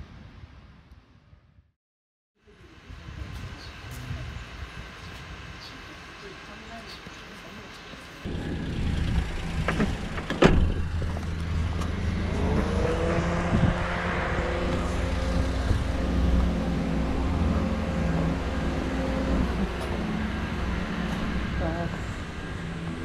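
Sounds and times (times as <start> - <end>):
vehicle engine running: 4.0 - 23.0.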